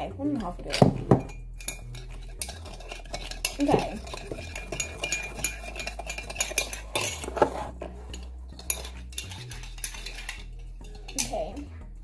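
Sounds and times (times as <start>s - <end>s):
teaspoon clinking in a mug: 0.6s - 11.5s.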